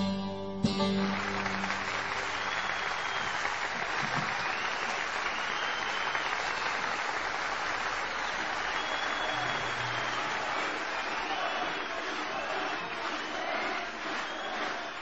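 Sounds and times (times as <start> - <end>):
crowd applauding: 0.7 - 15.0.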